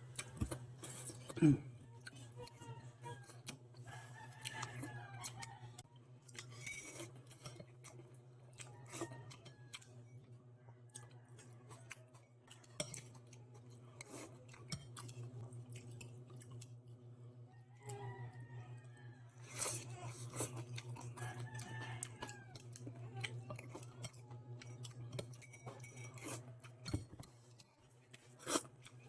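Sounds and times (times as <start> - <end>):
chewing: 0.0 - 5.6, 6.3 - 10.0, 10.7 - 16.8, 19.4 - 29.0.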